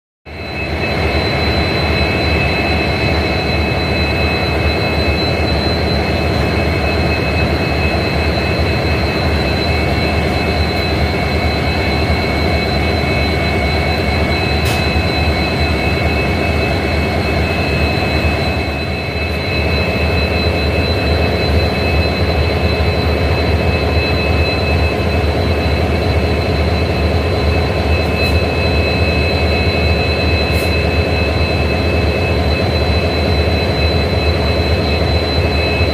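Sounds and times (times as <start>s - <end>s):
high steady whine: 0.3s - 35.9s
diesel locomotives idling: 0.7s - 35.9s.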